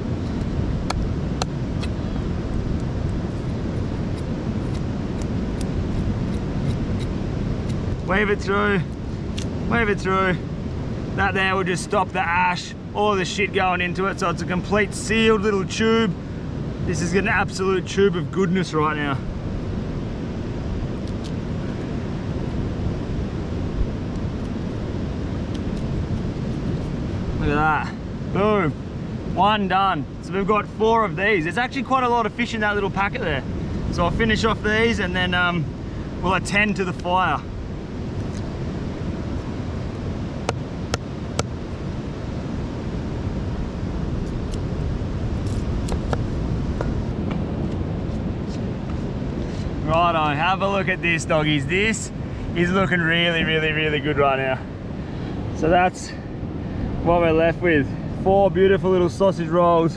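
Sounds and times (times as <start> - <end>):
wind on microphone: 0.0 - 12.1, 12.7 - 59.9
surf on a beach: 0.0 - 59.9.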